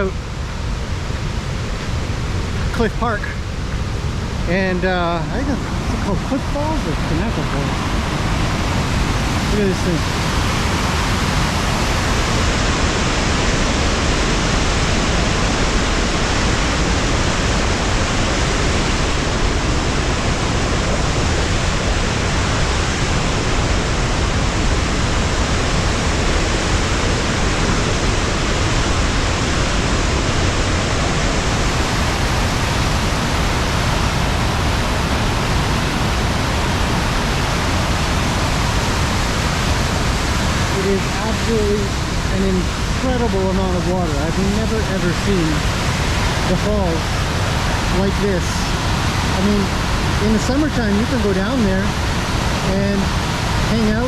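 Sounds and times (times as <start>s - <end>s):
waterfall roaring: 0.0s - 54.0s
wind on microphone: 0.0s - 54.0s.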